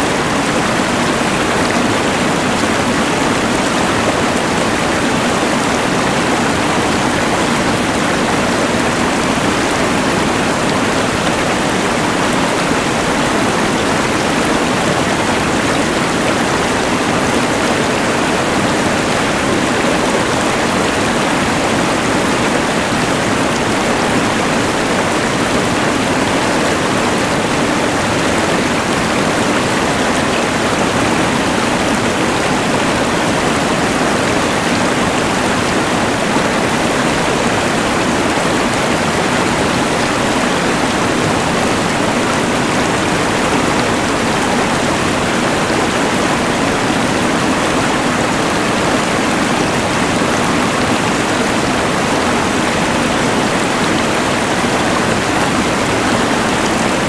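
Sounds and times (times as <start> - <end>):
rushing river: 0.0 - 57.0.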